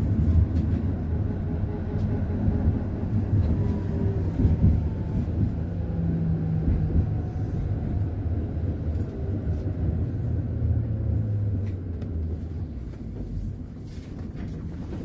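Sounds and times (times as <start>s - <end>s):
tram running gear rumble: 0.0s - 15.0s.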